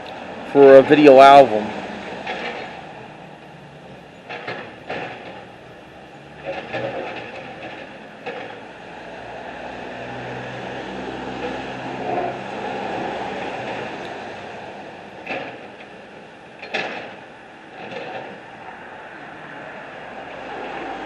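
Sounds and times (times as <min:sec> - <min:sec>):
vehicle passing: 0:00.0 - 0:05.4, 0:06.2 - 0:15.8, 0:17.7 - 0:21.0.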